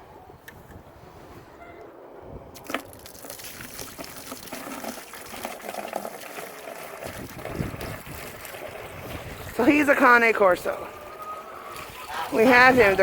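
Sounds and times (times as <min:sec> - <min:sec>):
water pouring into waterer: 0:02.6 - 0:13.0.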